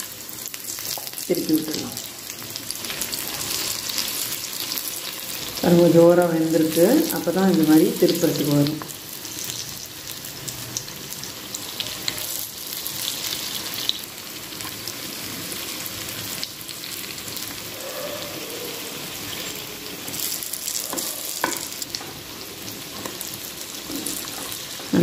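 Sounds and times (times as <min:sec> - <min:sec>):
batter frying in bubbling oil: 0:00.0 - 0:25.0.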